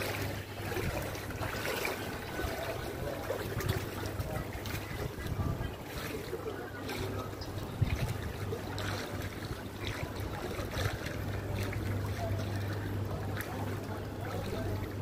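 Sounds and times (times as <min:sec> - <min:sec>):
floodwater splashing and sloshing: 0:00.0 - 0:15.0
steady low hum: 0:00.0 - 0:15.0.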